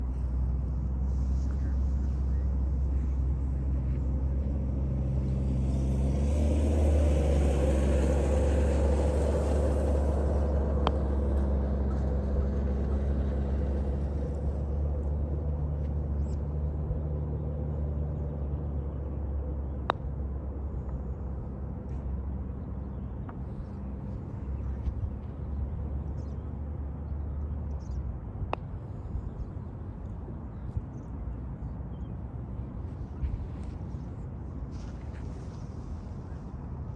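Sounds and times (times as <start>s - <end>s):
aircraft engine rumble: 0.0s - 36.9s.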